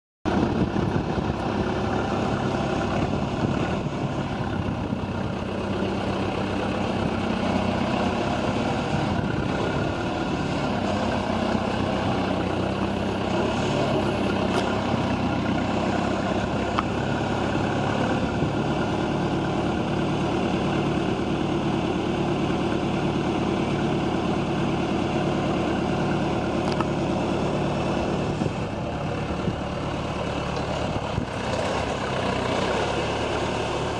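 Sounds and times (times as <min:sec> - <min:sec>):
loader engine idling: 0:00.3 - 0:33.9.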